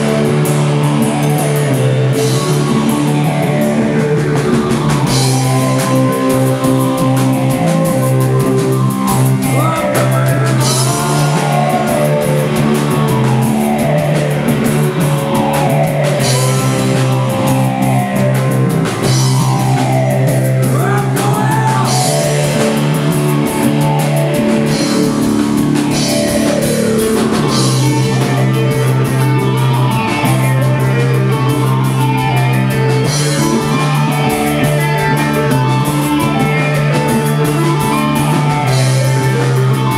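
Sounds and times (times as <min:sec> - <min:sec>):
drum kit with crashing cymbals: 0:00.0 - 0:39.9
heavy electric guitar chords: 0:00.0 - 0:39.9.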